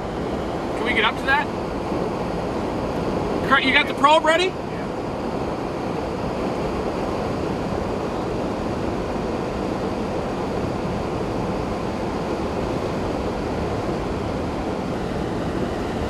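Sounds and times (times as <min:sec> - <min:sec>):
road and wind noise in car: 0:00.0 - 0:16.0.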